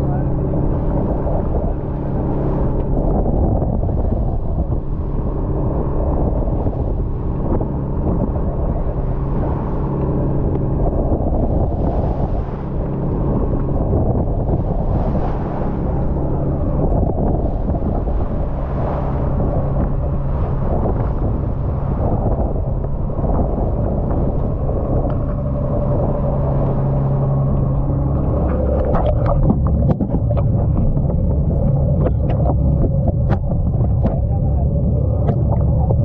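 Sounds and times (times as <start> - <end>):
boat engine running: 0.0 - 36.0
water noise: 0.0 - 36.0
wind: 0.0 - 36.0.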